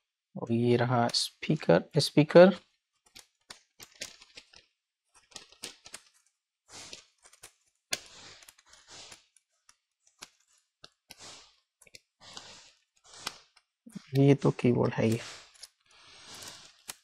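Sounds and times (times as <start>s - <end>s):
cables rustling: 1.0s - 17.0s
laptop parts clicking: 2.5s - 17.0s.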